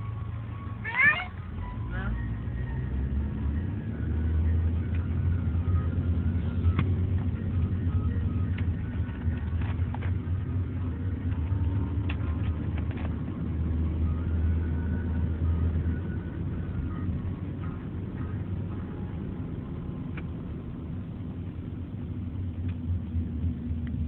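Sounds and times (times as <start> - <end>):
car interior rumble: 0.0 - 24.0.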